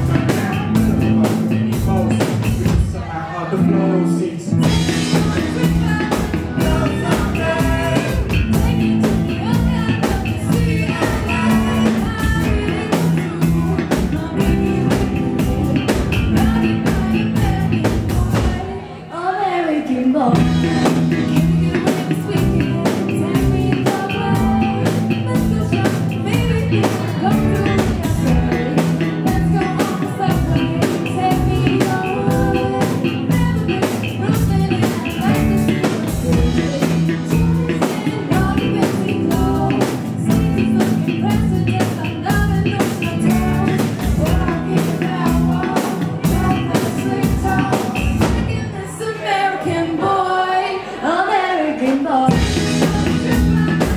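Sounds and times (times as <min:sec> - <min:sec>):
drum kit beat: 0:00.0 - 0:03.1, 0:04.5 - 0:18.8, 0:20.3 - 0:48.8, 0:51.9 - 0:53.9
live band playing: 0:00.0 - 0:19.1, 0:19.8 - 0:50.3, 0:51.7 - 0:53.9.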